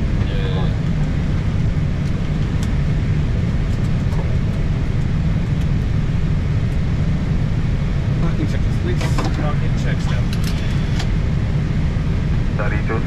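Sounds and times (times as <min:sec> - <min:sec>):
cockpit low rumble and hiss: 0:00.0 - 0:13.0.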